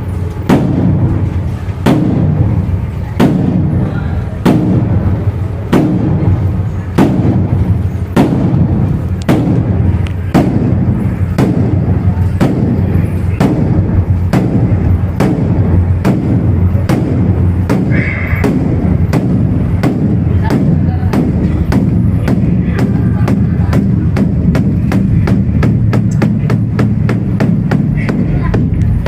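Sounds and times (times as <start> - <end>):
deep drum booming: 0.0 - 29.0.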